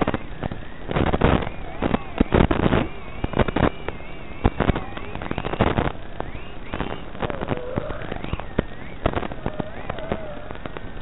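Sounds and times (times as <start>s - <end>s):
crackle of pops and static: 0.0s - 11.0s
quadcopter motors whining: 0.0s - 11.0s.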